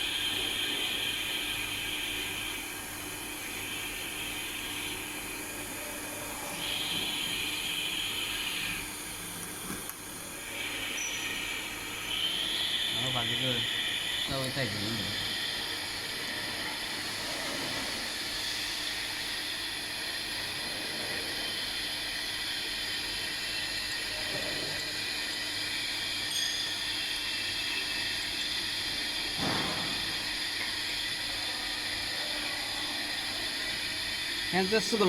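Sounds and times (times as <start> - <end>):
workshop background hiss: 0.0 - 35.0.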